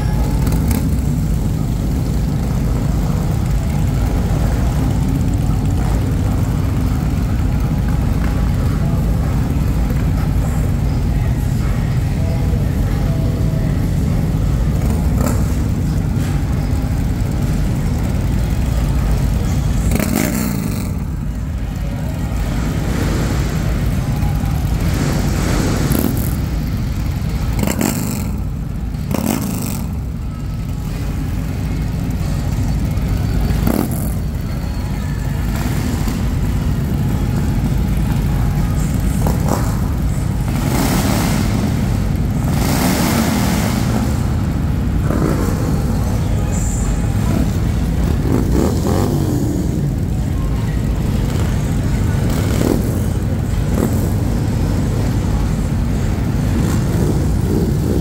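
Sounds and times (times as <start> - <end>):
motorcycle engines rumbling and revving: 0.0 - 58.0.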